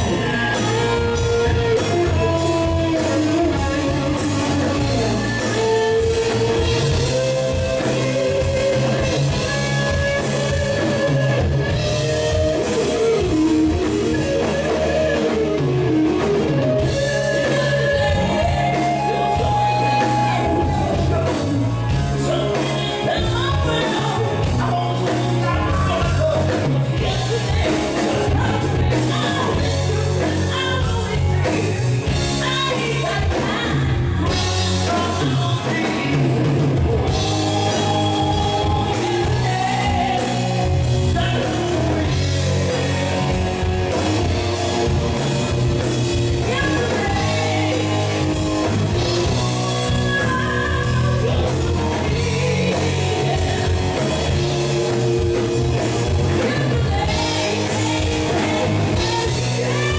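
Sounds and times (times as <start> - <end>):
person singing: 0.0 - 44.7, 46.1 - 59.9
bass guitar: 0.0 - 59.9
drum kit: 0.0 - 59.9
electric guitar melody: 0.0 - 59.9.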